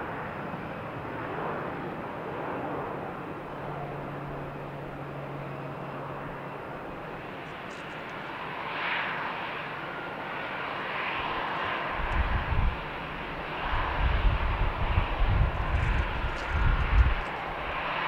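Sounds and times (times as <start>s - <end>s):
aircraft engine rushing: 0.0s - 18.0s.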